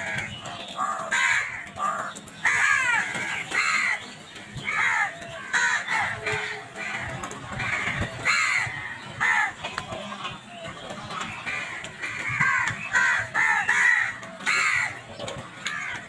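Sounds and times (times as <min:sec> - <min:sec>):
crows cawing: 0:00.0 - 0:16.0.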